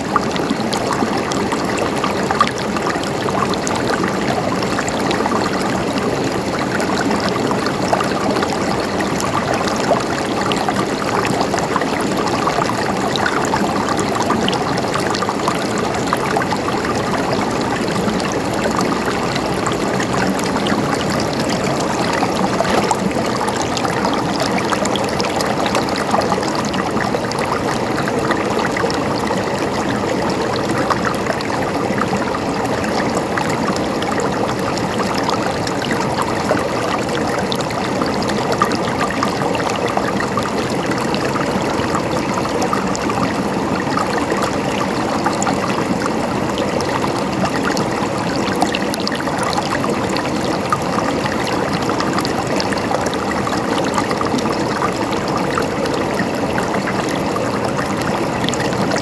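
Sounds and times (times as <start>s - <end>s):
water gurgling: 0.0s - 59.0s.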